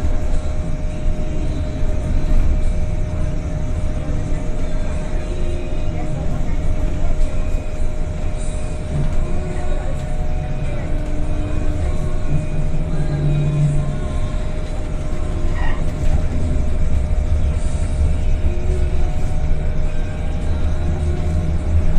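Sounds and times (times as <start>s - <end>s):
bus running noise rumble: 0.0s - 21.9s
low hum: 0.0s - 21.9s
thin steady whine: 0.0s - 21.9s.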